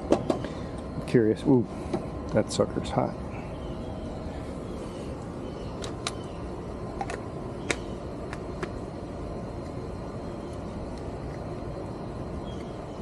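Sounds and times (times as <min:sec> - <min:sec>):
air conditioner unit running: 0:00.0 - 0:13.0.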